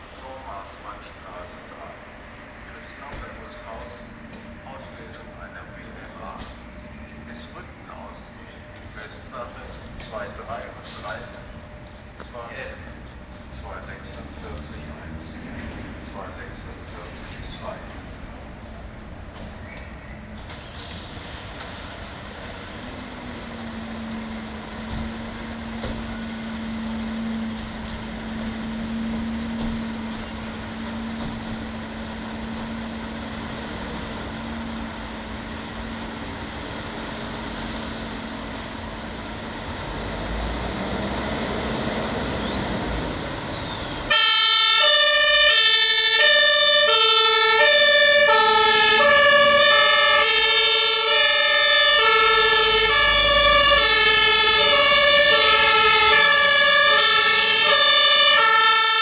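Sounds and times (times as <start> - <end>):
fire engines humming: 0.0 - 59.0.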